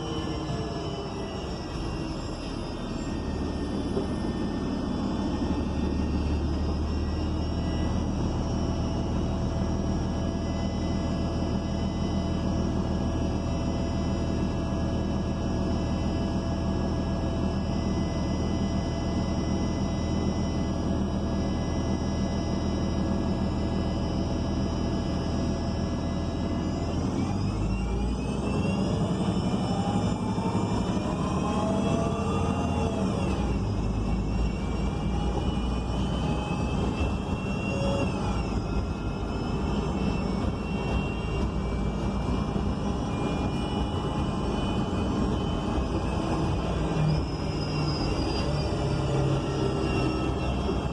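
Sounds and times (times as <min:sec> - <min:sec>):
bus pulling away with whine: 0:00.0 - 0:50.9.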